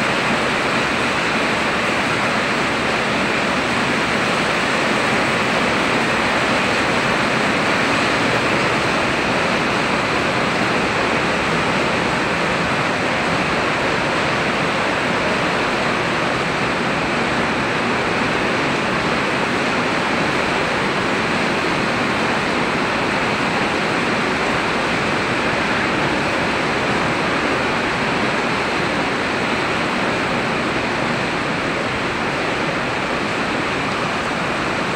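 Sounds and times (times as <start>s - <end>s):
heavy rain hiss: 0.0s - 34.9s.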